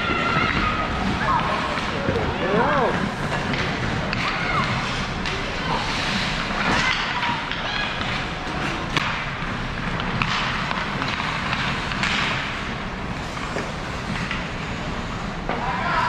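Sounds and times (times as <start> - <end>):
skate blades scraping ice: 0.0 - 16.0
sticks clacking on puck: 0.1 - 14.5.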